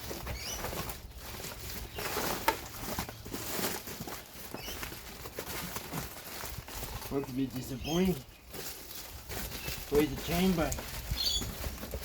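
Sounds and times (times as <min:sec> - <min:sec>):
rustling and scraping of cardboard: 0:00.0 - 0:12.0.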